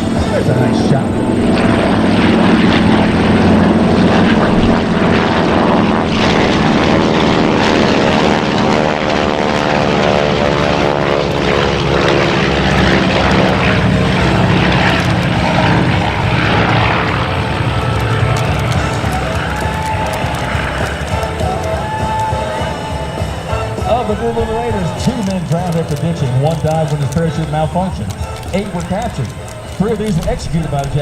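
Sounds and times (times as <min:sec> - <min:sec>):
propeller planes flying past: 0:00.0 - 0:31.0.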